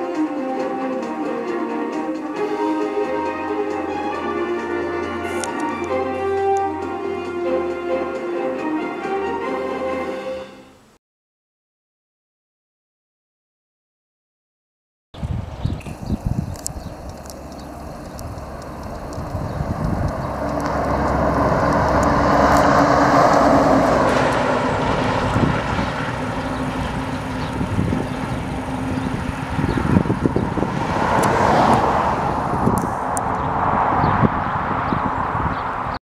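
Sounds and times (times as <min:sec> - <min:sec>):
trucks passing on road: 0:00.0 - 0:10.8, 0:15.2 - 0:36.0.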